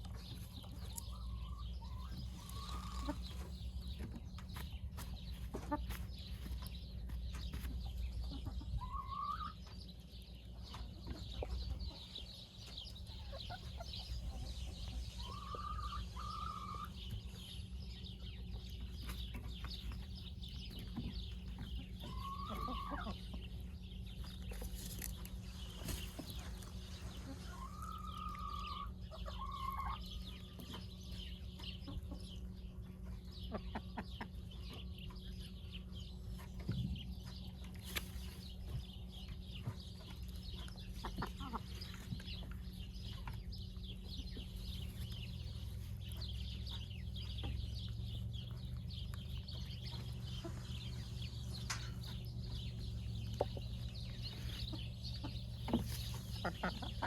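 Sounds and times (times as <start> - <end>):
chickens clucking: 0.0 - 57.0
steady low hum: 0.0 - 57.0.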